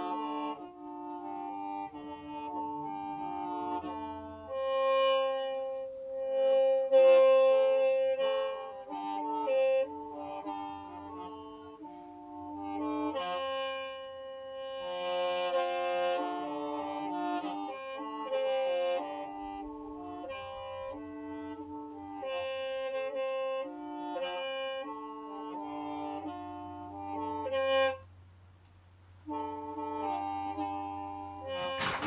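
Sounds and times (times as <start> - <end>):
bamboo mouth organ playing: 0.0 - 32.0.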